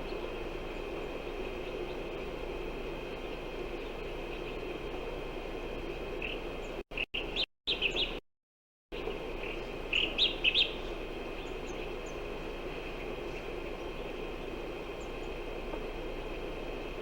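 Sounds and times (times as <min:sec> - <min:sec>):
small songbirds chirping: 0:00.0 - 0:05.1, 0:05.8 - 0:08.2, 0:09.0 - 0:17.0.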